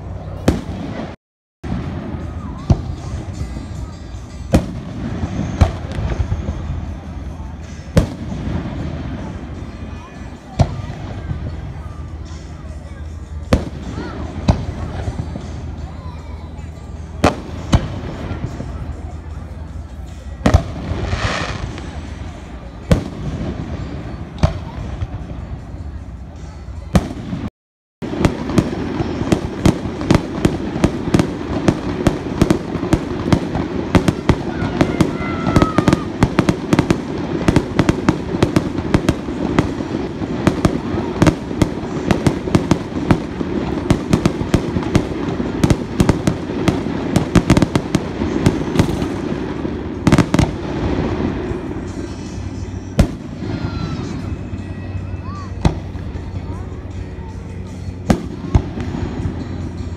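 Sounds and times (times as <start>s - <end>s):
fireworks bursting: 0.0s - 12.6s, 13.4s - 15.9s, 17.1s - 19.4s, 20.1s - 56.4s, 57.9s - 59.9s.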